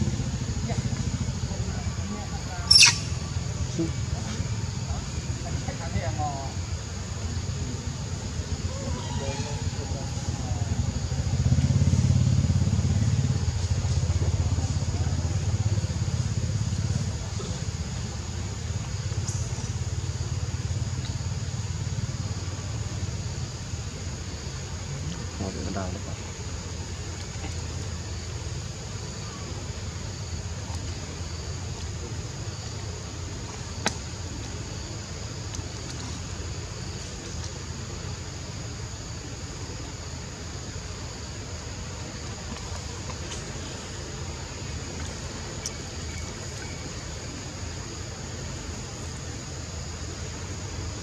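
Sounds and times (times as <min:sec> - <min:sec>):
faint high hiss: 0:00.0 - 0:51.0
forest insects chorus: 0:00.0 - 0:51.0
low steady rumble: 0:00.0 - 0:51.0.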